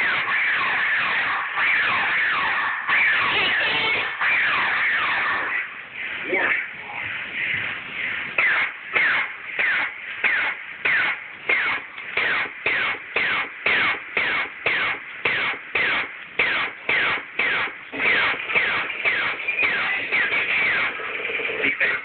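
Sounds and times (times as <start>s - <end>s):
laser gun electronic zaps: 0.0s - 22.0s.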